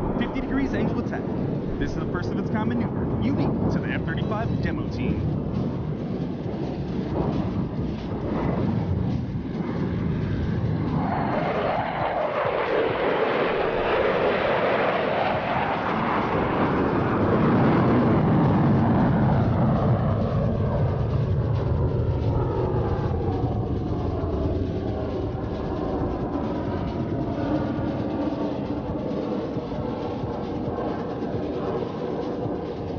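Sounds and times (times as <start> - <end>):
jet engine roaring flyby: 0.0 - 32.9.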